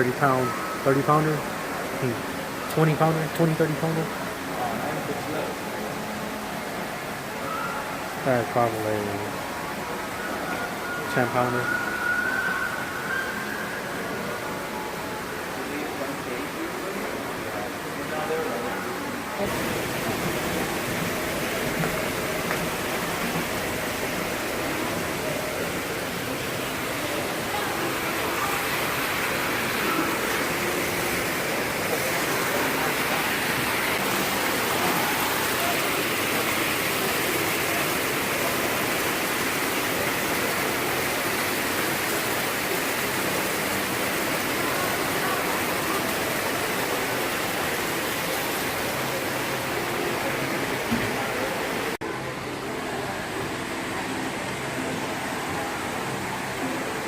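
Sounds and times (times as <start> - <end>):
murmur of voices: 0.0 - 57.0
running water rushing: 0.0 - 57.0.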